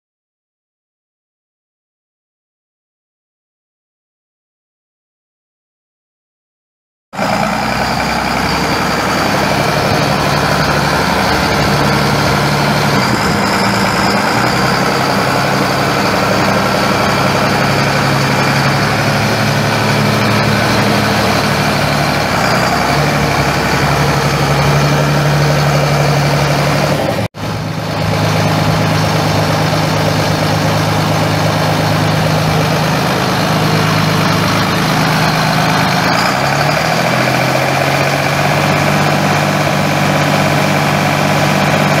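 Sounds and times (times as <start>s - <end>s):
tractor diesel engine idling: 7.2s - 42.0s.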